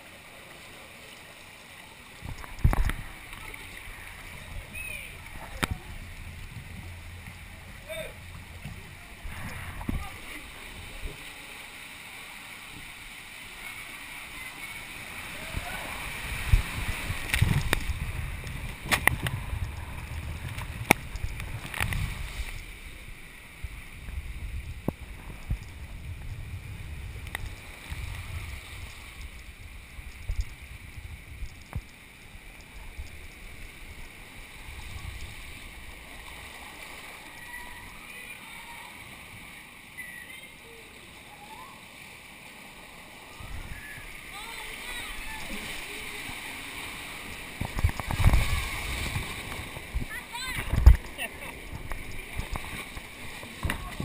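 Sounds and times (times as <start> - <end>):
body rumbling along water slide: 0.0 - 54.0
water rushing: 0.0 - 54.0.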